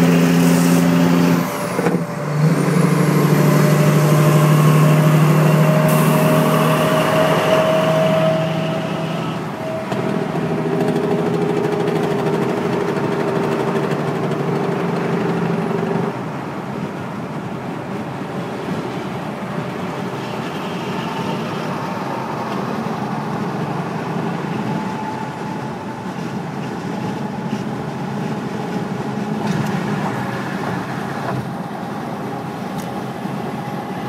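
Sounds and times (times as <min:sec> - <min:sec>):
diesel engine drone: 0:00.0 - 0:34.0
road noise: 0:00.0 - 0:34.0.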